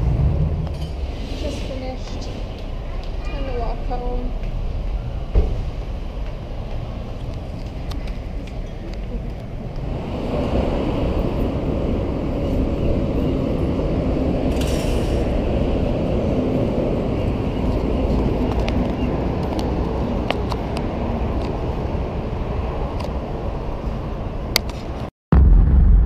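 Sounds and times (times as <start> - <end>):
low rumble of street traffic: 0.0 - 25.1.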